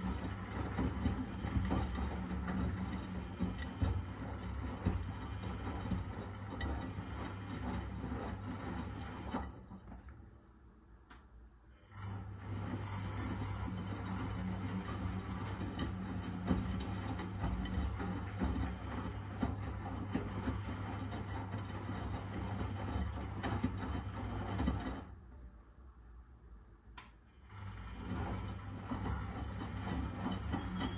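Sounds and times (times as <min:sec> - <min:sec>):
washing machine motor humming: 0:00.0 - 0:10.4, 0:11.7 - 0:25.4, 0:27.3 - 0:30.9.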